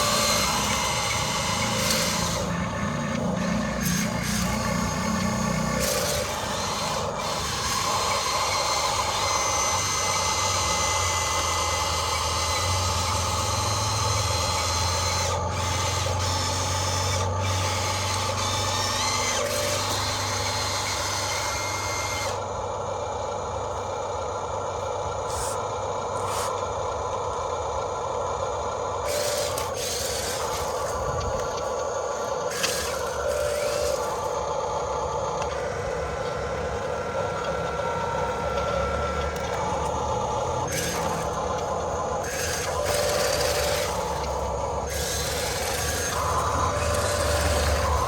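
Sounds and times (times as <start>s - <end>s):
small electric motors whining: 0.0s - 48.0s.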